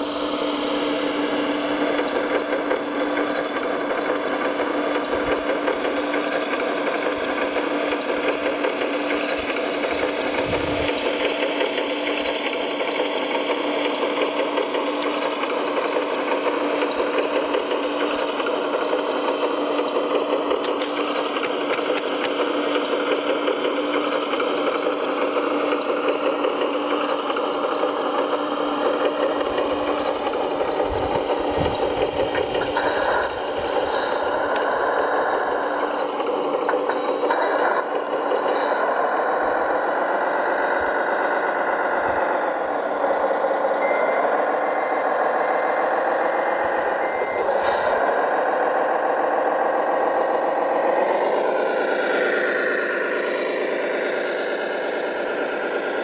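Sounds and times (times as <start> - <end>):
electric motor and gearbox whine: 0.0 - 56.0.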